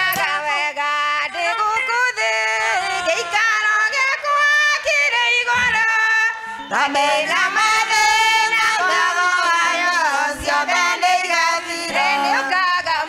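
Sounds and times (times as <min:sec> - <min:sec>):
women's choir singing a hymn: 0:00.0 - 0:13.0.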